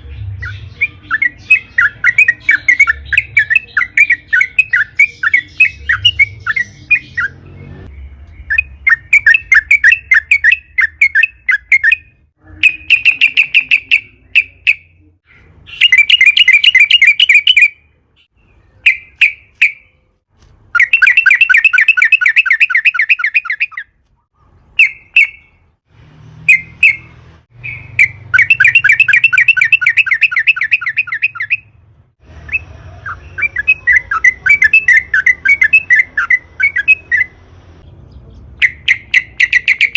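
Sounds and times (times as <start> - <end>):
bulbul chattering song: 0.0 - 25.8, 26.4 - 39.9.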